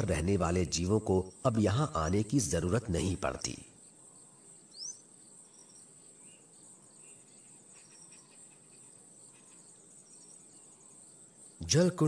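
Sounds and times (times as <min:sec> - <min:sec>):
insects trilling: 0:00.0 - 0:12.0
rising bird chirp: 0:00.0 - 0:12.0.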